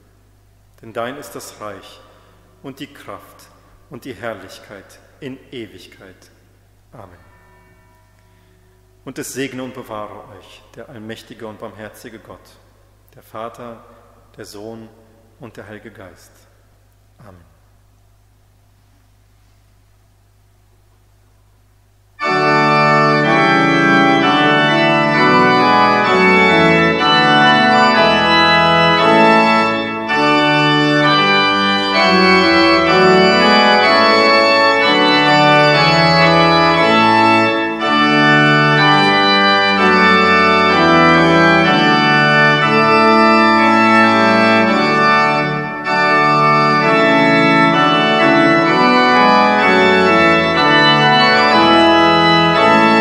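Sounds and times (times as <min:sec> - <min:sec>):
church organ playing chords: 0:00.0 - 0:17.9, 0:22.1 - 0:53.0.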